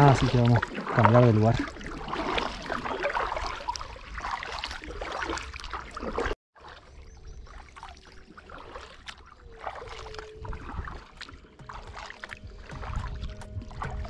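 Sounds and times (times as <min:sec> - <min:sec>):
kayak paddle splashing in water: 0:00.0 - 0:14.0
water trickling off paddle: 0:00.0 - 0:14.0.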